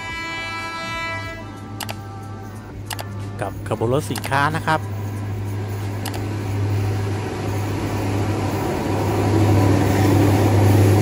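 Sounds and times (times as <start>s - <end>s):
locomotive engine droning: 0.0s - 11.0s.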